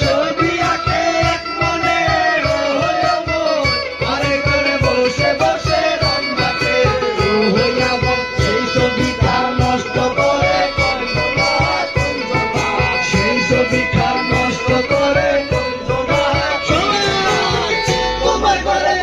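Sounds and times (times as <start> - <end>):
fast drum beat: 0.0 - 19.0
held drone tones: 0.0 - 19.0
wavering melody: 0.0 - 19.0.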